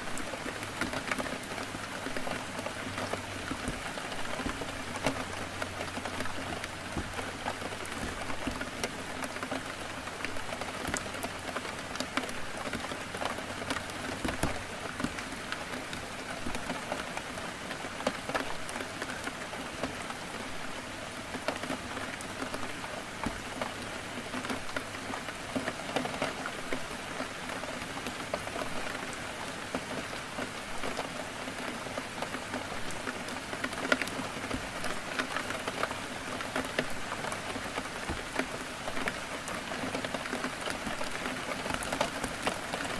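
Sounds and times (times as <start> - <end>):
heavy rain: 0.0 - 42.9
raindrops striking a window: 0.0 - 42.9.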